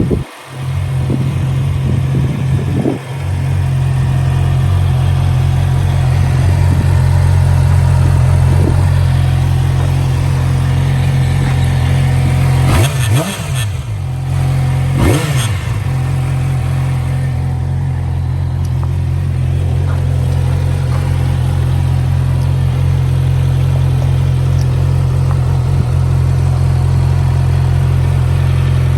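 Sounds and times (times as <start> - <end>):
engine throttle blips: 0.0 - 28.9
motorcycle engine idling: 0.0 - 28.9.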